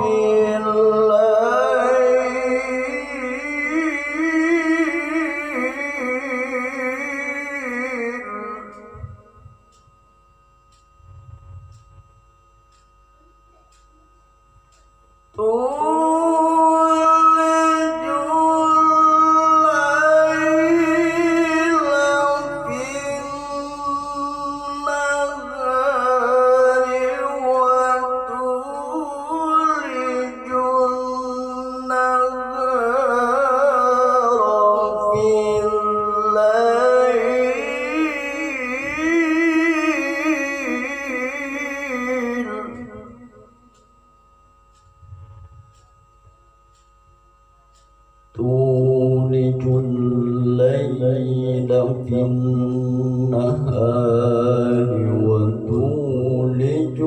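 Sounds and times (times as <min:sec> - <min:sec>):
man reciting melodically: 0:00.0 - 0:09.8, 0:15.3 - 0:43.9, 0:47.7 - 0:57.0.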